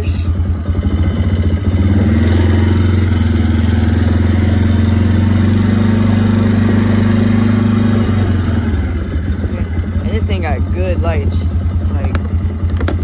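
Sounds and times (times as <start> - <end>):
quad bike engine idling: 0.0 - 13.0.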